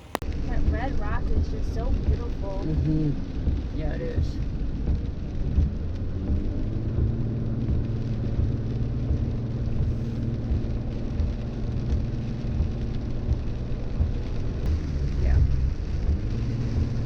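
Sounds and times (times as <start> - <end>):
engine hum: 0.0 - 17.0
road and engine rumble: 0.0 - 17.0.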